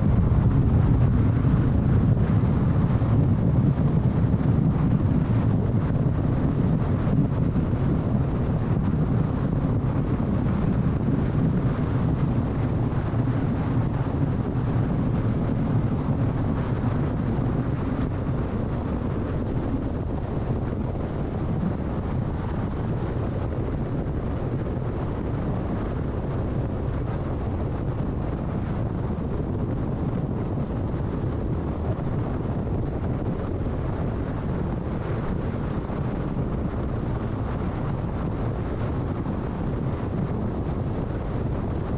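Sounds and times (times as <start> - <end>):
tyres and wind rumble: 0.0 - 41.9.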